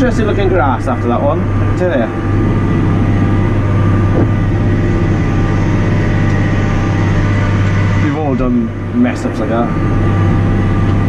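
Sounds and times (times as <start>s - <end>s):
tractor diesel engine drone: 0.0s - 11.0s.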